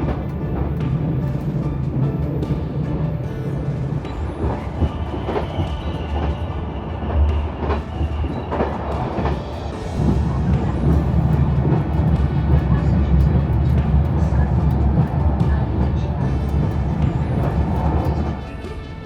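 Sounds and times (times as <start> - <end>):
train rumbling on rails: 0.0 - 19.0
wheels clicking over rail joints: 0.0 - 19.0.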